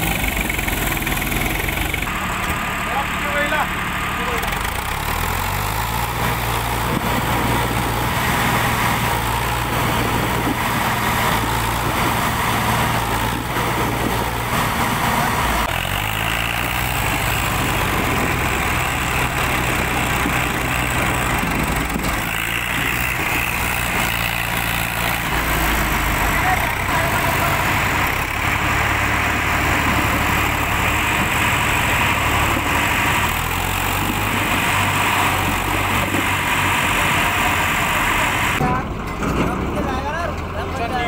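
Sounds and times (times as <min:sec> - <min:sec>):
tractor diesel engine labouring: 0:00.0 - 0:41.0.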